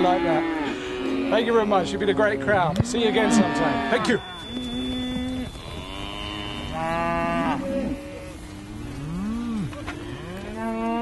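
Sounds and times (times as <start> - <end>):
cows mooing: 0.0 - 11.0.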